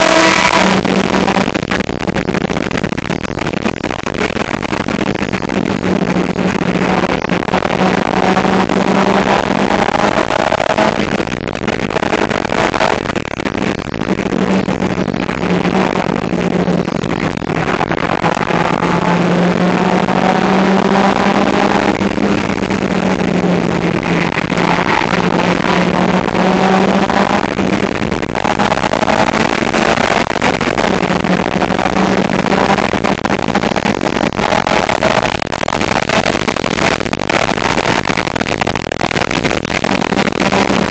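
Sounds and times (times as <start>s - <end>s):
car engine running hard: 0.0s - 40.9s
loud rough rushing noise: 0.0s - 40.9s.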